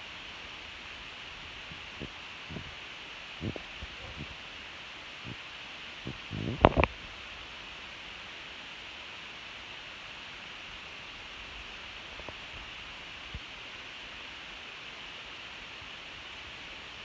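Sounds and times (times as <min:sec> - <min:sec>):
faint room noise hiss: 0:00.0 - 0:17.0.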